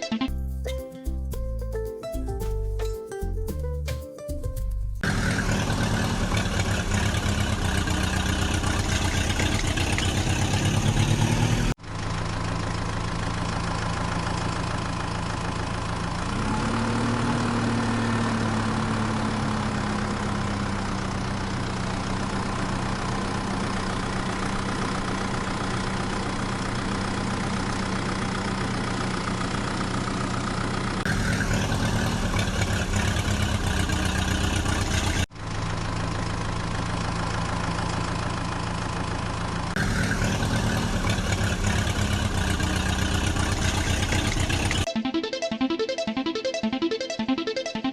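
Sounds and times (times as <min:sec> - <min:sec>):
diesel engine idling: 0:05.0 - 0:44.9.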